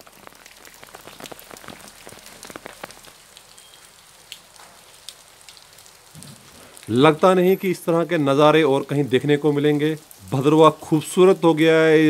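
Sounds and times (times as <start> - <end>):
water drops pattering: 0.2 - 12.0.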